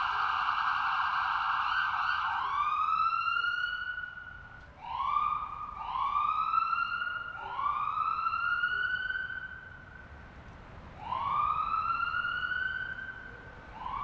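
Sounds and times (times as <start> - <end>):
ambulance siren wailing: 0.0 - 9.8, 11.0 - 14.0.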